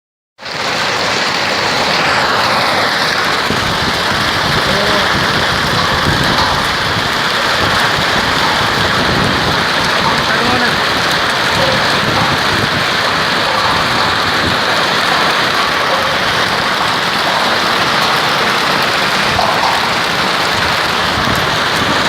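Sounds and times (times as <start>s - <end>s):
hail and rain on hard surfaces: 0.4s - 22.0s.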